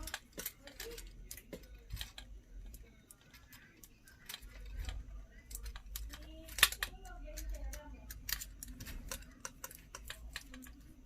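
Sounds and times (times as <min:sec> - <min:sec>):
plastic toy clicks and snaps: 0:00.0 - 0:10.8.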